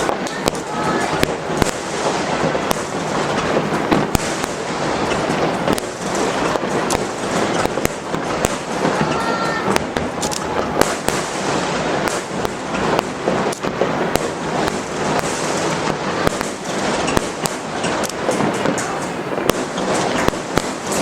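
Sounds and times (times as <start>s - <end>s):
crackle of bursting shells: 0.0s - 21.0s
fireworks bangs: 0.0s - 21.0s.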